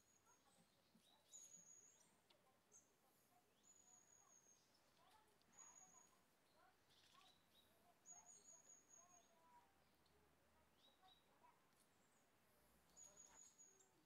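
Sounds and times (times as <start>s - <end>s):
faint high bird chirps: 0.0s - 14.0s.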